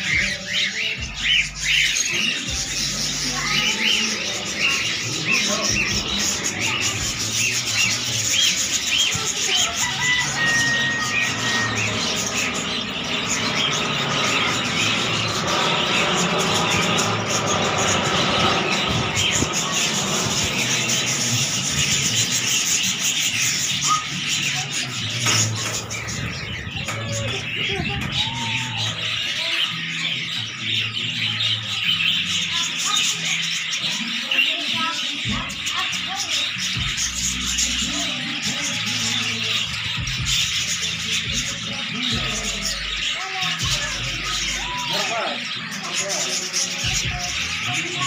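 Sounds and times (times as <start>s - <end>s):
budgerigars chirping: 0.0s - 48.0s.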